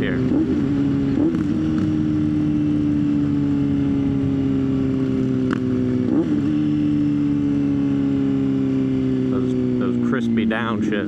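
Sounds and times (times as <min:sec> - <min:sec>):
motorcycle engine cruising: 0:00.0 - 0:11.0
road and wind noise: 0:00.0 - 0:11.0.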